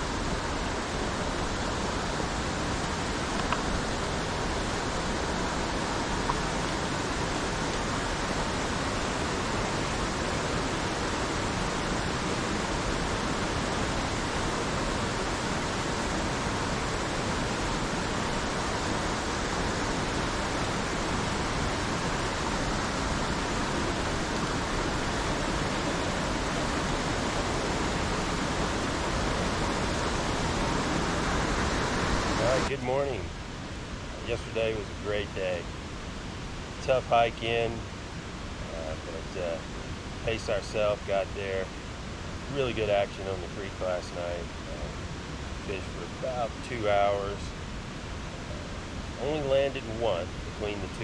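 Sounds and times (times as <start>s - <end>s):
creek water rushing over boulders: 0.0s - 51.0s.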